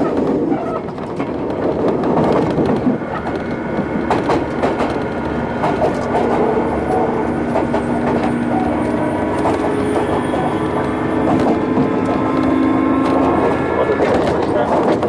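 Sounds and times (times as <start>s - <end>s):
clickety-clack of rail joints: 0.0s - 15.0s
train wheel and motor rumble: 0.0s - 15.0s.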